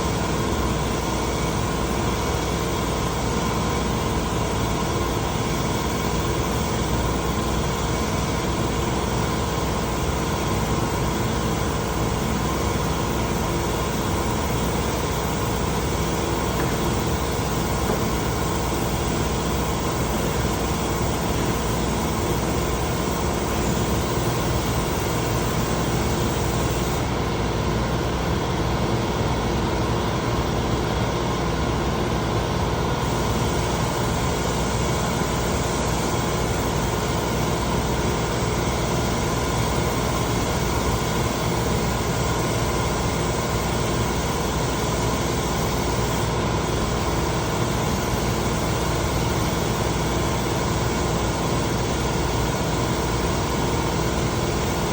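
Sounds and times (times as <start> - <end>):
motor hum: 0.0 - 54.9.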